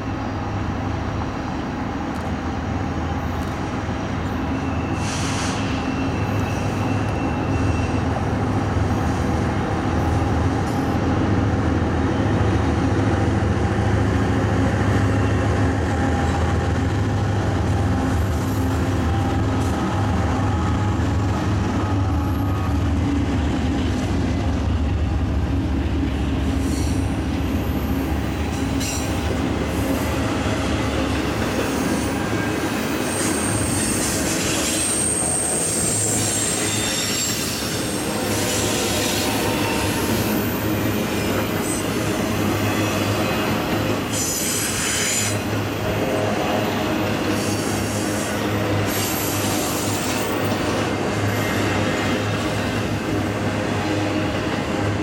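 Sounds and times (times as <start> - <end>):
diesel locomotives chugging: 0.0 - 55.0.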